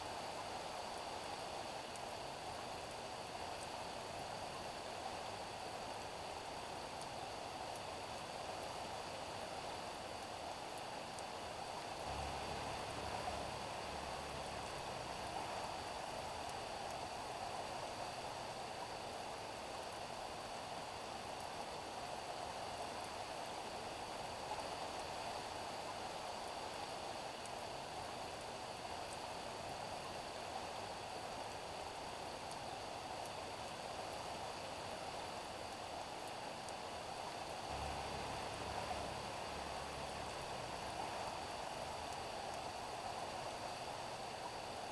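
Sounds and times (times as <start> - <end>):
rain falling on street: 5.0 - 44.9.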